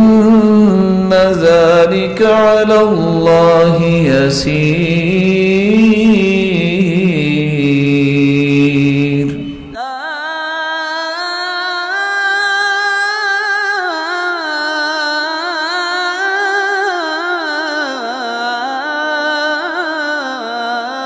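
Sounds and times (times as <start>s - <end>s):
man reciting: 0.0s - 21.0s
unaccompanied wordless chant: 0.0s - 21.0s.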